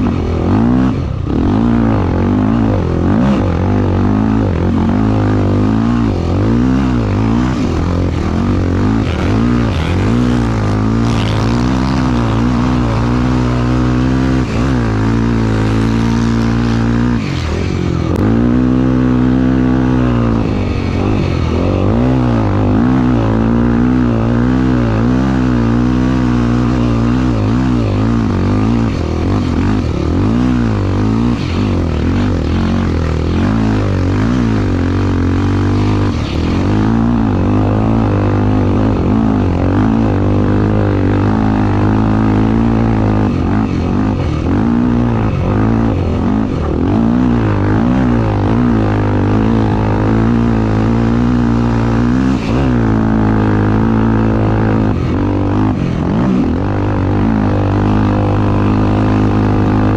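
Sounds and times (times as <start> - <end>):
racing engine revving: 0.0 - 59.9.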